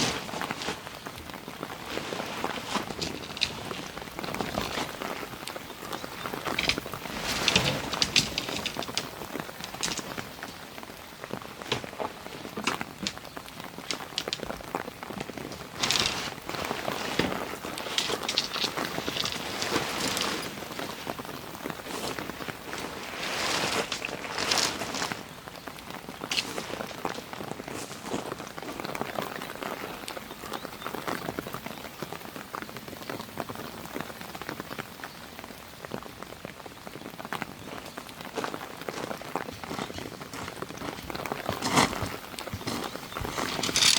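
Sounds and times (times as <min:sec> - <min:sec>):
rain hissing: 0:00.0 - 0:43.9
raindrops ticking on a surface: 0:00.4 - 0:23.2, 0:23.8 - 0:43.9.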